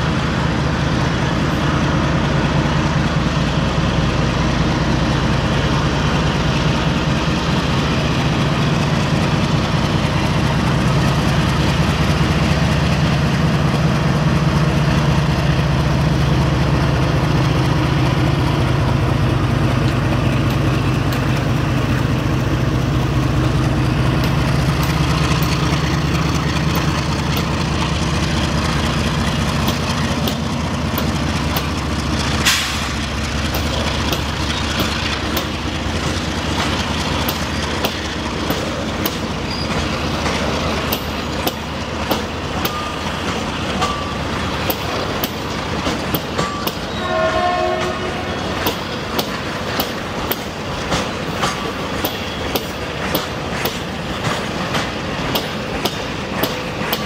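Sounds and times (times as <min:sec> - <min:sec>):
freight locomotive engine drone: 0:00.0 - 0:57.0.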